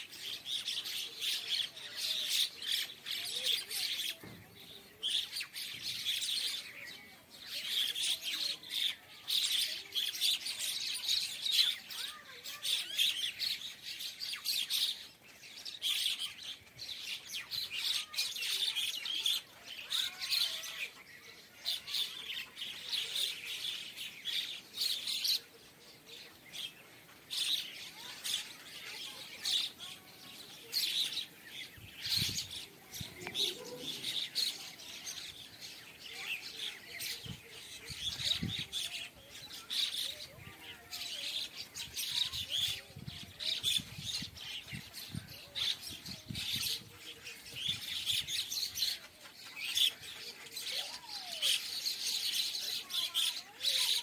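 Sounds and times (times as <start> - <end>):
flock of birds chattering: 0.0 - 54.0.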